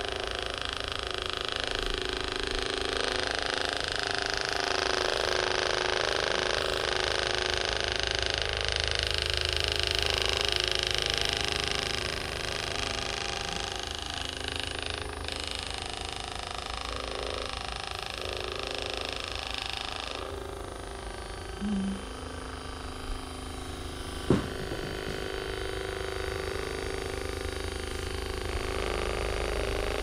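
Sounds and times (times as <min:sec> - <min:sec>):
massage gun hammering buzz: 0:00.0 - 0:30.0.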